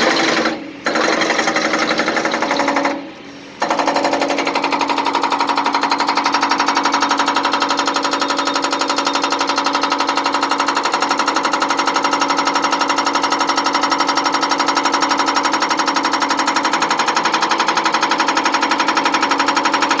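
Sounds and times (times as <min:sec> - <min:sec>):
demolition hammer hammering concrete: 0:00.0 - 0:20.0.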